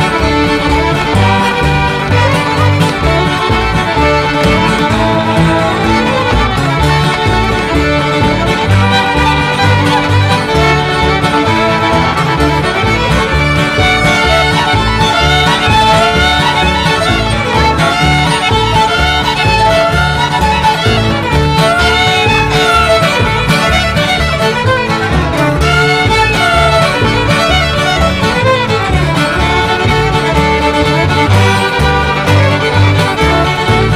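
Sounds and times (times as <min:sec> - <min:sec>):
fiddle melody: 0:00.0 - 0:33.9
low bass notes: 0:00.0 - 0:33.9
strummed acoustic guitar: 0:00.0 - 0:33.9.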